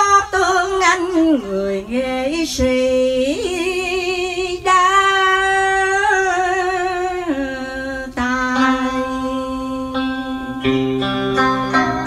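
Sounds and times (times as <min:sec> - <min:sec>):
woman singing a slow ballad: 0:00.0 - 0:10.8.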